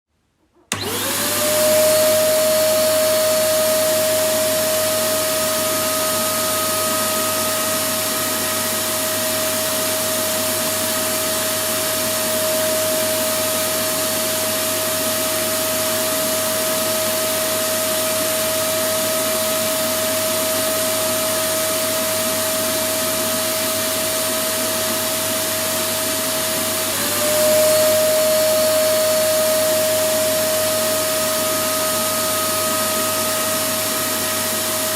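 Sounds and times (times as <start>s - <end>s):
vacuum cleaner motor whine: 0.7s - 34.9s.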